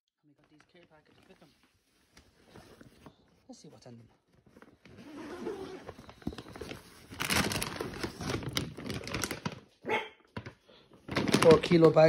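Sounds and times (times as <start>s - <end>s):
plastic bag crinkling and rustling: 0.3s - 12.0s.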